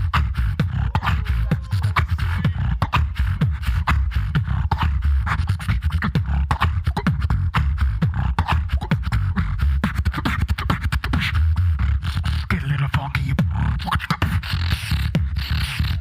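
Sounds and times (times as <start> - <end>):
beatboxing through a pa: 0.0 - 16.0
sustained bass hum: 0.0 - 16.0.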